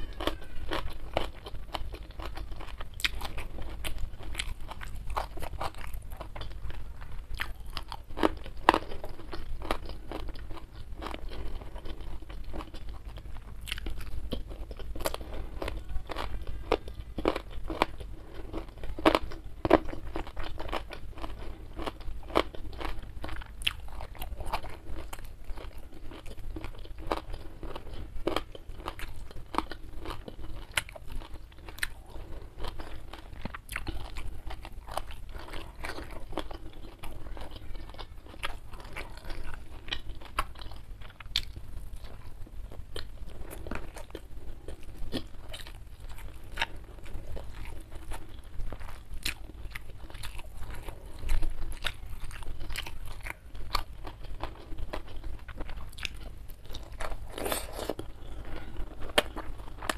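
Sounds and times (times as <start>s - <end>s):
chewing food: 0.0s - 59.9s.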